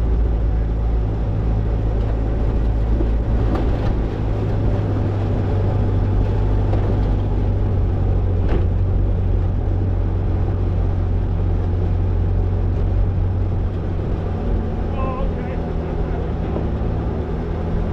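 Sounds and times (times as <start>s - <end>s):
car engine droning: 0.0s - 17.9s.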